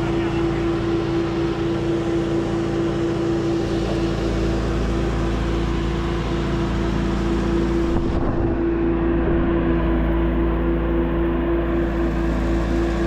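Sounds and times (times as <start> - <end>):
machinery engine humming steadily: 0.0 - 13.0.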